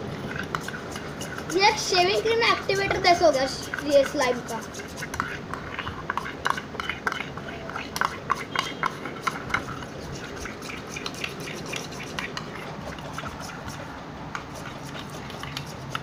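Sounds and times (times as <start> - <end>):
metal spoon scraping steel bowl: 0.2 - 16.0.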